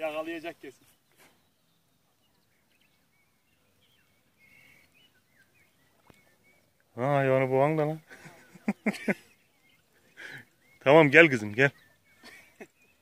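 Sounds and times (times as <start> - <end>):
faint high bird chirps: 0.0 - 13.0.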